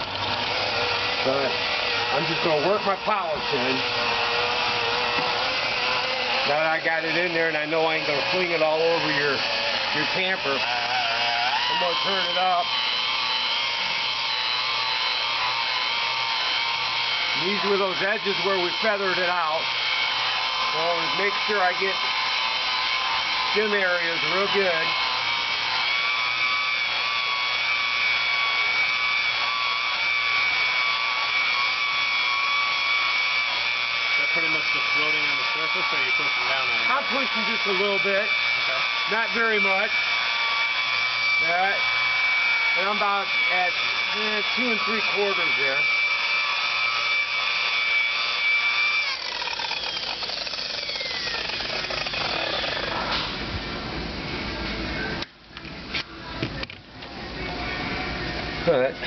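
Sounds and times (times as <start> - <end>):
electric polisher whining: 0.0 - 53.8.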